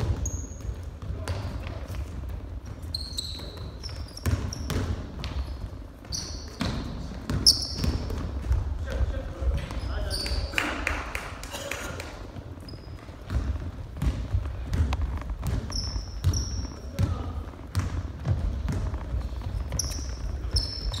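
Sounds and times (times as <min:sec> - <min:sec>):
basketball bouncing on wooden floor: 0:00.0 - 0:10.4, 0:12.4 - 0:21.0
sneaker squeaks: 0:00.0 - 0:10.7, 0:12.1 - 0:21.0.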